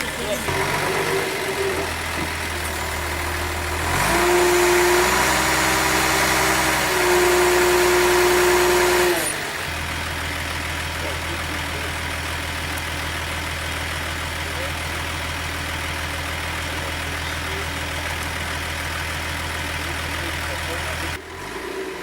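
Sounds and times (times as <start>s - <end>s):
truck engine idling and revving: 0.0s - 22.0s.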